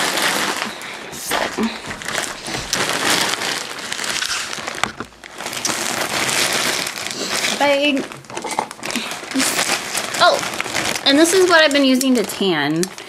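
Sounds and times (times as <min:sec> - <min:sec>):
paper bag rustling: 0:00.0 - 0:13.0.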